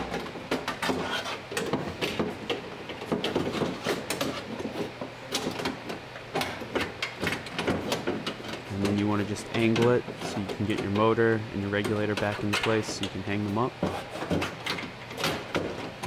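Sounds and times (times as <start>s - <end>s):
metallic clicks knocks and scrapes: 0.0s - 16.0s.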